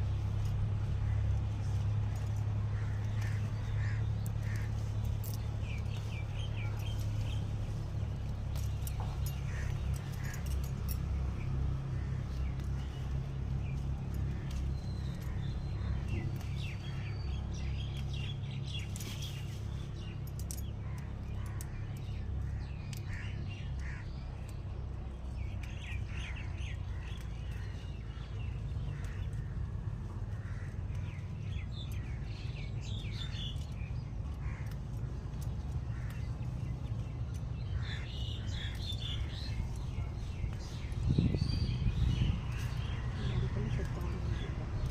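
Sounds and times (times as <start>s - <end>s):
birds chirping: 0.0s - 44.9s
steady low rumble: 0.0s - 44.9s.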